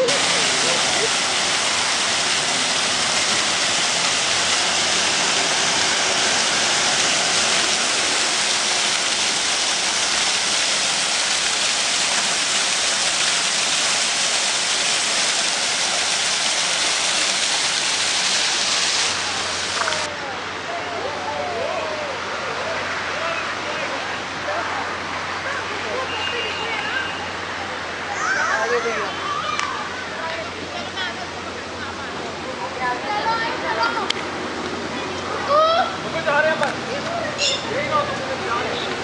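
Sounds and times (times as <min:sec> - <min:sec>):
fountain water splashing: 0:00.0 - 0:39.0.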